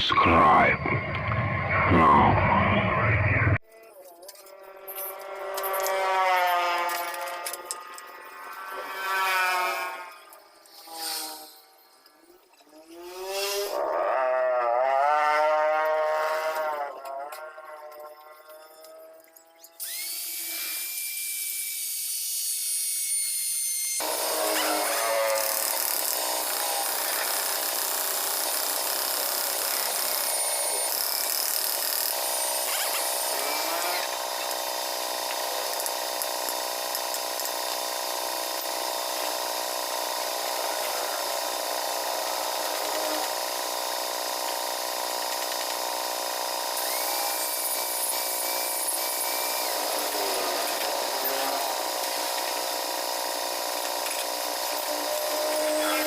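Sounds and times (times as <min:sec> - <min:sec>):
small motor whining: 0:03.7 - 0:56.0.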